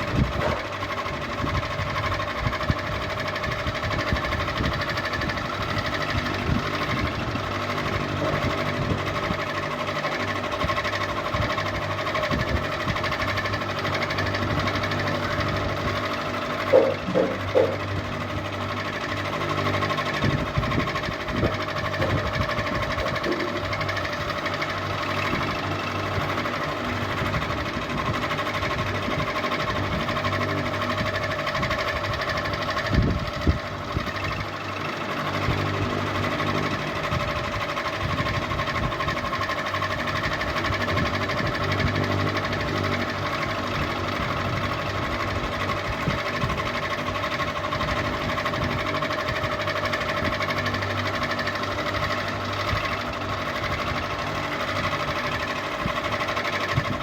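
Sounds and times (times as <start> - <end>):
ceiling fan whirring: 0.0 - 57.0.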